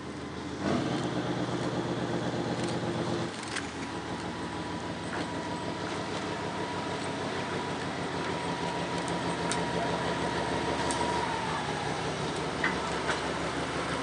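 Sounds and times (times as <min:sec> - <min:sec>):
diesel locomotive engine working: 0:00.0 - 0:14.0.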